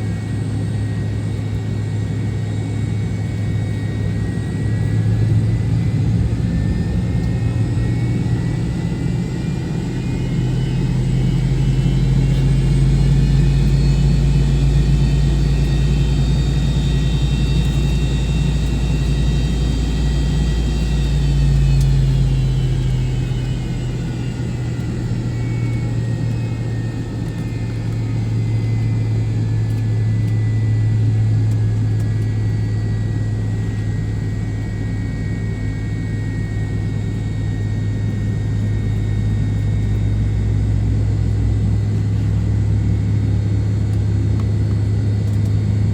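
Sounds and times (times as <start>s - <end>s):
jet engine cabin hum: 0.0s - 45.9s
thin high engine whine: 0.0s - 45.9s.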